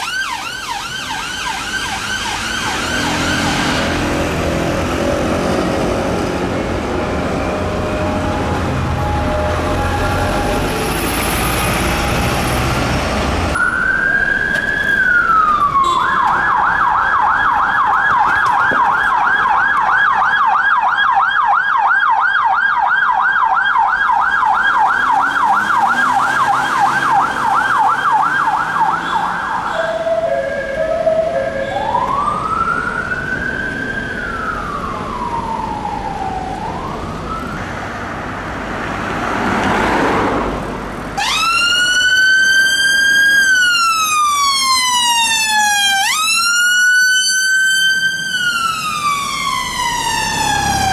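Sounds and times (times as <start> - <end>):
police siren wailing and yelping: 0.0 - 4.8, 7.0 - 11.2, 13.5 - 37.6, 41.2 - 50.9.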